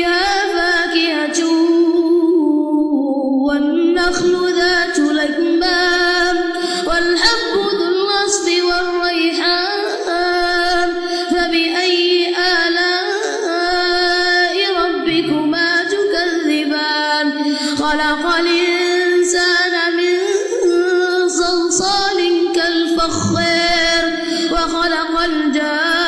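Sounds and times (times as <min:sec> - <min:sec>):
person reciting melodically: 0:00.0 - 0:26.0.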